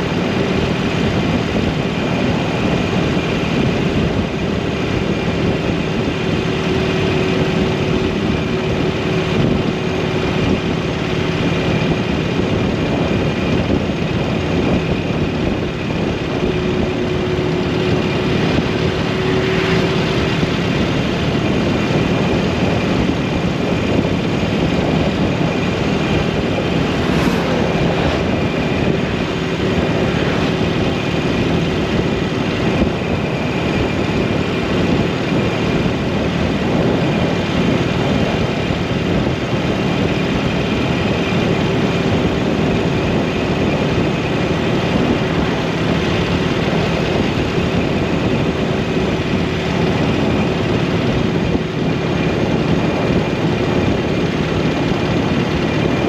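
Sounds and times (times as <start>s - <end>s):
motorcycle engine cruising: 0.0s - 56.0s
riding wind rushing: 0.0s - 56.0s.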